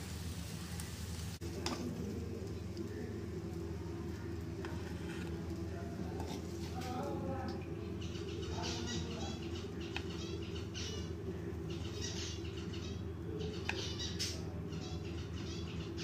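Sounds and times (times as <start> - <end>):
steady low hum: 0.0 - 16.0
small birds chirping: 2.2 - 16.0.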